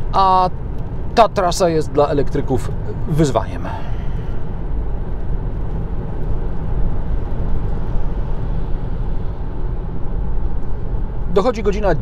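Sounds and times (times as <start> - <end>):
tyre and wind road noise: 0.0 - 12.0.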